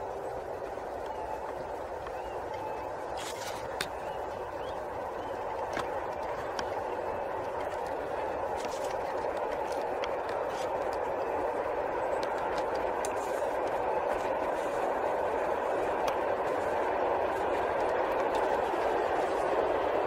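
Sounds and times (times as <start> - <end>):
freight train running: 0.0 - 20.0.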